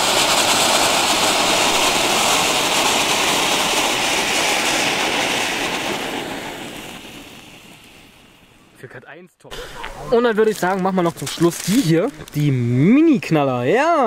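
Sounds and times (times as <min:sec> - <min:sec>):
firework fountain hissing: 0:00.0 - 0:08.8, 0:09.5 - 0:13.8.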